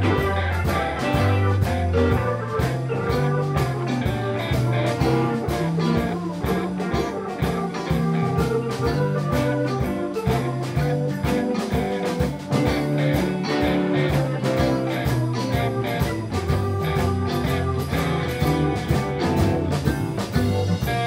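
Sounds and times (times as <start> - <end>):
drum kit beat: 0.0 - 21.0
electric guitars: 0.0 - 21.0
keyboard: 0.0 - 21.0
low bass line: 0.0 - 21.0.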